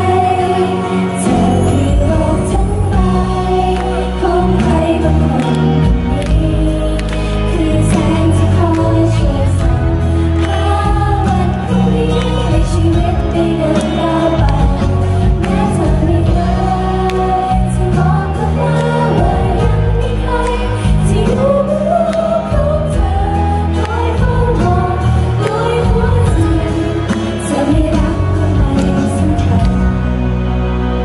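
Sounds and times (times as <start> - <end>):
girl group singing into microphones: 0.0 - 30.0
pop instrumental accompaniment: 0.0 - 31.0.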